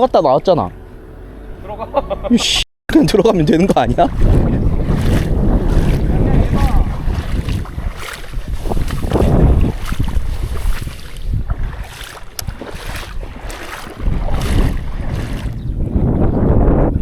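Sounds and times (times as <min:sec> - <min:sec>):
wind buffeting microphone: 0:03.0 - 0:17.0.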